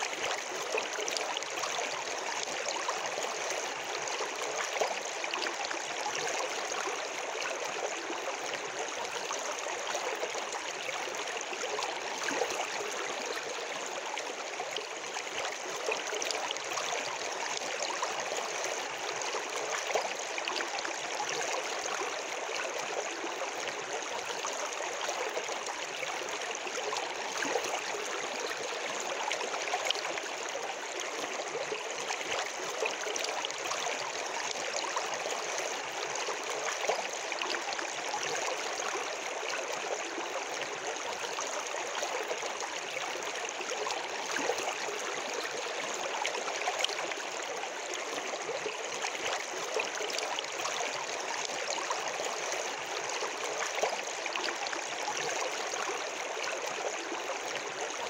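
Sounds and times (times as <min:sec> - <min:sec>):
water gurgles and splashes: 0:00.0 - 0:58.0.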